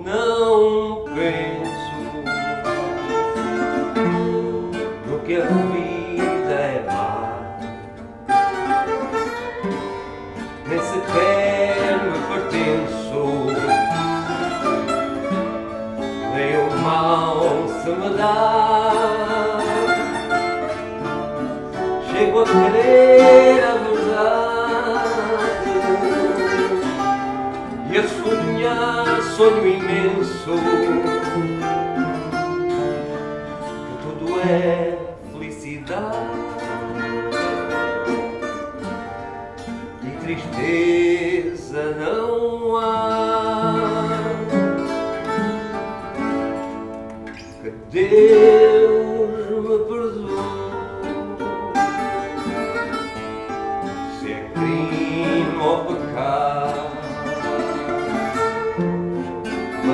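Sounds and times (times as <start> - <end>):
plucked string ensemble folk song: 0.0 - 59.9.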